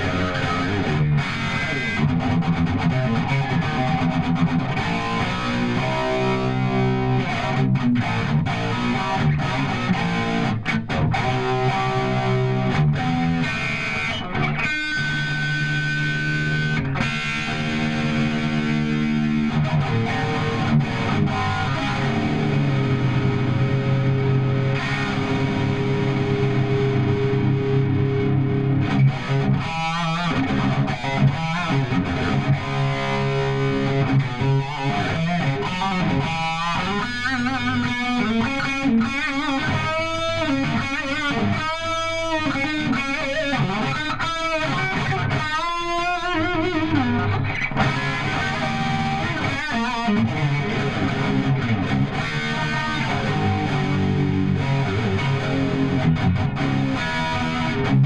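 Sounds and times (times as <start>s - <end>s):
distorted electric guitar: 0.0s - 58.0s.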